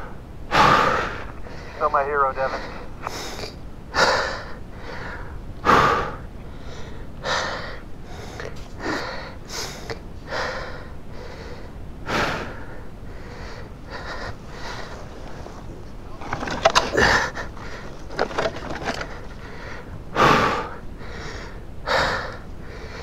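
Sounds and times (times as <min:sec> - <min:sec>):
person breathing hard: 0:00.0 - 0:15.7, 0:16.3 - 0:23.0.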